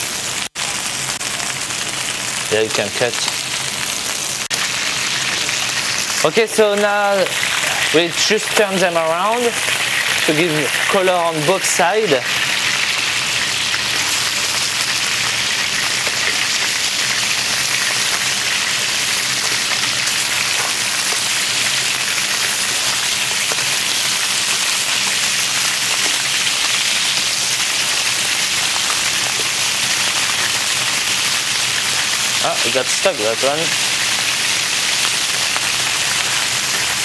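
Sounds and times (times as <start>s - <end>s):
chicken sizzling in oil: 0.0s - 37.0s.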